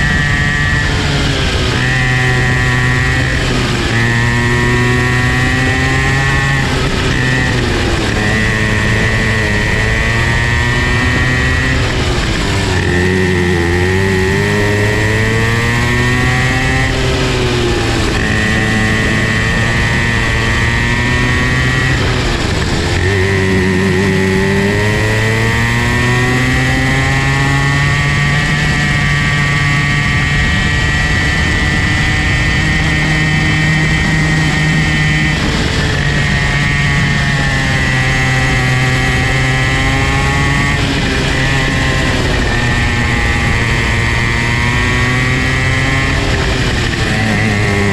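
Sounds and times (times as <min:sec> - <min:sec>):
kart engine revving: 0:00.0 - 0:47.9.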